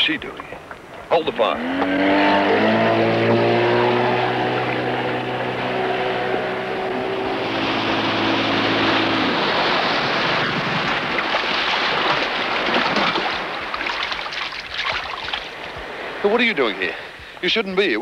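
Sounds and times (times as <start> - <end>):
outboard motor running: 0.3 - 16.2
rush of wind and water spray: 0.8 - 18.0.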